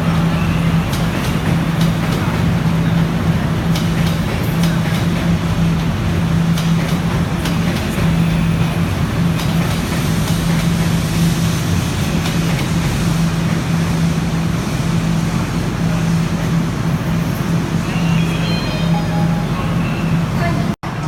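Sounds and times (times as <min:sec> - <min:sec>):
metro train rumbling: 0:00.0 - 0:21.0.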